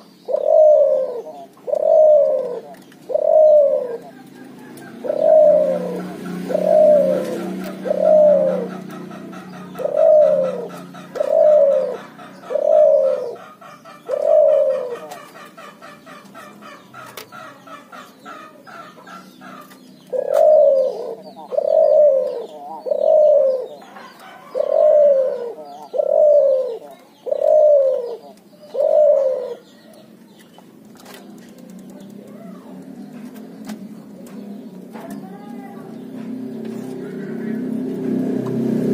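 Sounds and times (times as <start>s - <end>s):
dove cooing: 0.0s - 30.2s, 31.0s - 38.9s
small birds chirping: 0.0s - 38.9s.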